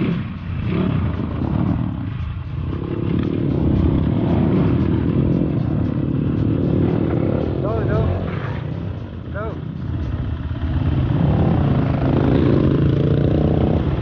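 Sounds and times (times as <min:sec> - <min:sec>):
off-road motorcycle engine running: 0:00.0 - 0:14.0.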